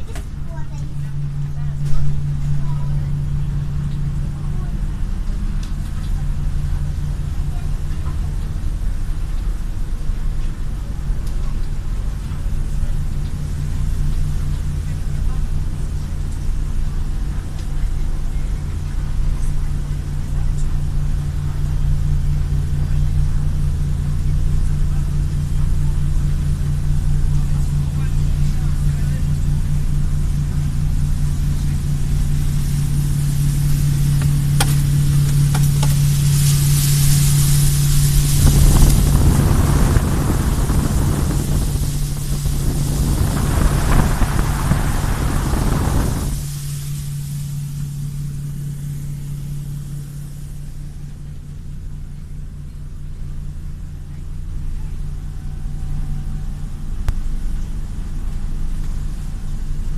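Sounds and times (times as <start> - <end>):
boat diesel engine drone: 0.0 - 59.9.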